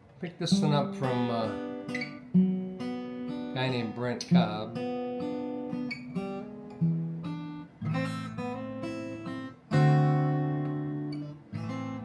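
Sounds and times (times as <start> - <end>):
acoustic guitar picking and strumming: 0.0 - 12.0.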